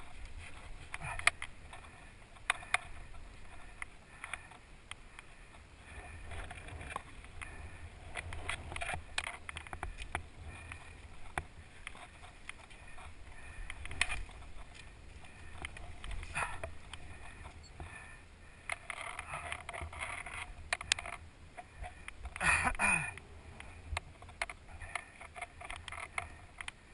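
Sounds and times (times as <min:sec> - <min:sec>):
grass and sand brushing camera: 0:00.0 - 0:22.4
low wind rumble: 0:00.0 - 0:22.4.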